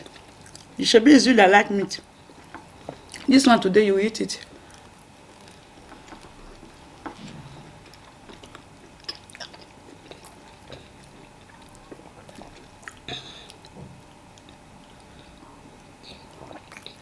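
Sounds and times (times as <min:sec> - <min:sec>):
chewing and mouth sounds: 0:00.0 - 0:00.8, 0:02.0 - 0:03.3, 0:04.4 - 0:17.0.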